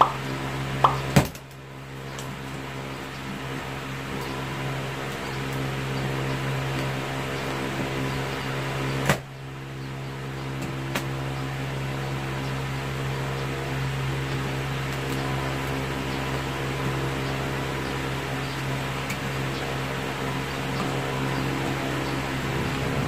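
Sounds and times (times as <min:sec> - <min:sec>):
electric motor hum: 0:00.0 - 0:23.0.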